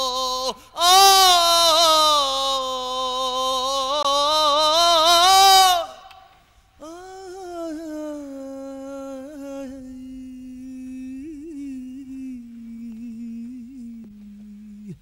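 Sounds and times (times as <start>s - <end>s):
person humming: 0.0s - 6.1s, 6.8s - 15.0s.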